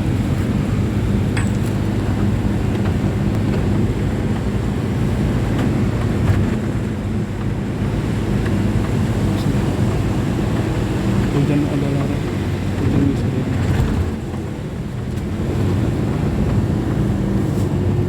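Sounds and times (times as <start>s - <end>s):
bus engine drone: 0.0s - 18.0s
road rumble: 0.0s - 18.0s.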